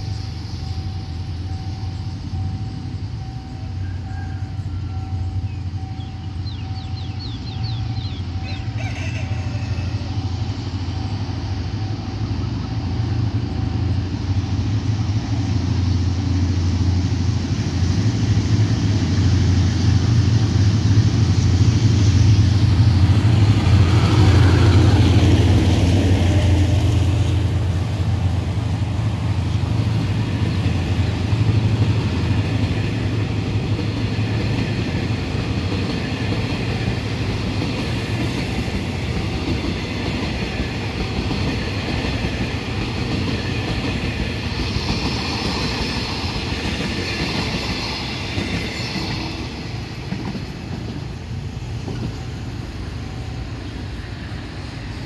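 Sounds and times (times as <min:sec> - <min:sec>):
locomotive engine hum: 0:00.0 - 0:55.0
train wheels on rails: 0:00.0 - 0:55.0.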